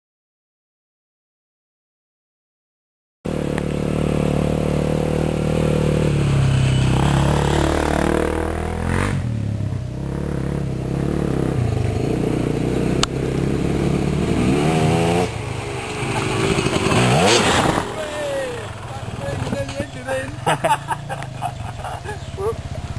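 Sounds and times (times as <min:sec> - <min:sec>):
motorcycle engine revving: 0:03.3 - 0:22.9.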